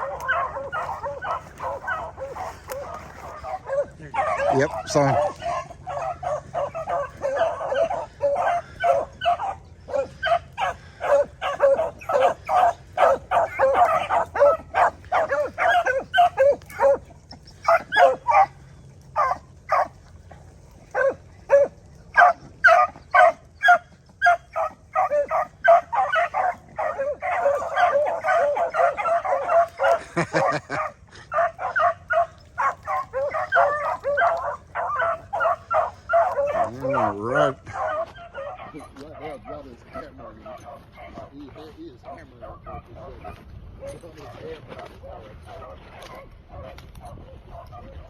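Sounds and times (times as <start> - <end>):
pack of dogs baying and barking: 0.0 - 48.0.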